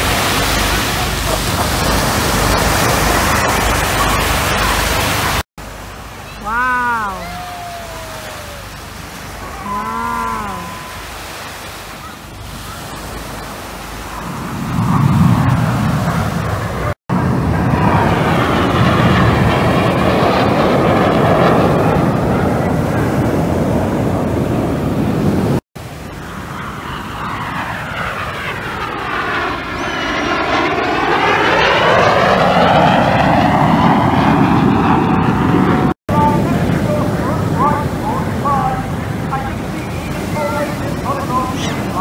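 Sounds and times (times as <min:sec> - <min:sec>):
jets flying past low: 0:00.0 - 0:42.0.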